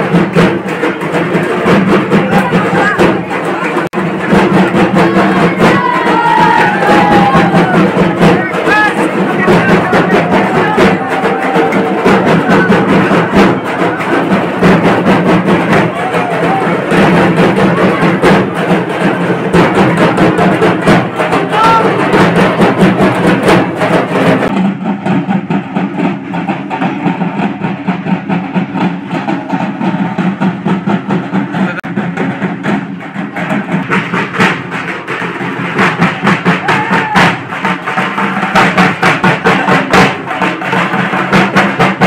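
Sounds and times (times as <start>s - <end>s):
group drumming fast rhythm: 0.0s - 42.0s.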